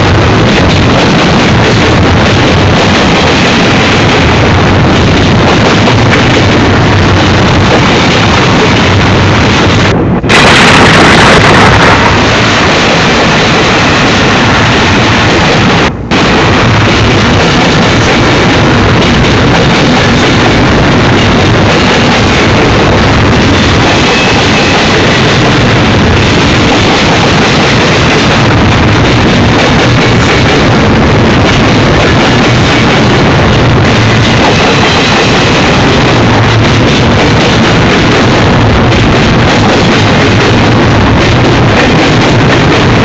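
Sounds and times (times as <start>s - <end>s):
freight train wheels rumbling: 0.0s - 43.0s
wind on microphone: 0.0s - 43.0s.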